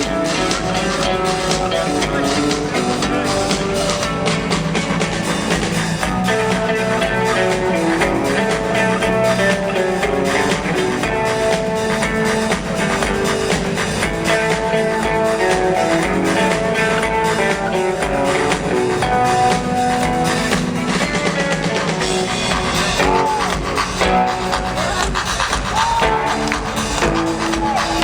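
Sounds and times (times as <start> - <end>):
melodic electric guitar line: 0.0 - 28.0
rock drums and bass: 0.0 - 28.0.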